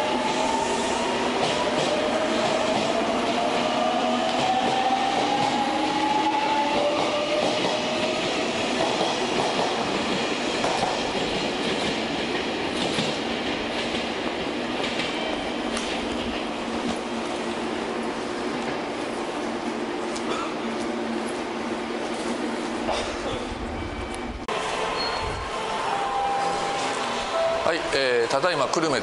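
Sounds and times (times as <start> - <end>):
train wheels rumbling and clattering: 0.0 - 29.0.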